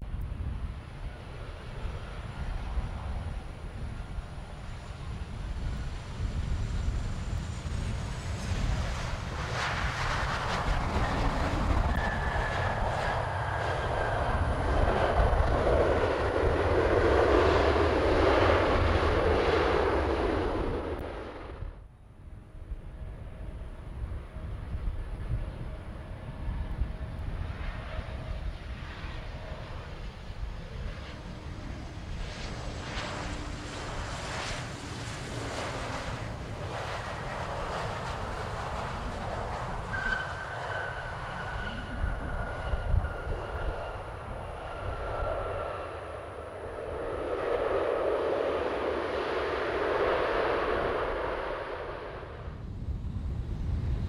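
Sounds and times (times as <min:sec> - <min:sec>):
wind buffeting microphone: 0:00.0 - 0:54.0
jet engines whining: 0:00.7 - 0:21.9, 0:23.0 - 0:54.0.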